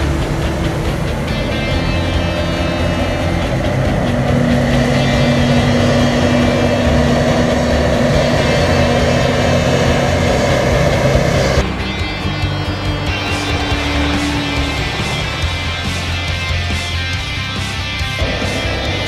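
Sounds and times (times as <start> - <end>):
harvester engine drone: 0.0 - 19.0
steady held tone: 0.0 - 19.0.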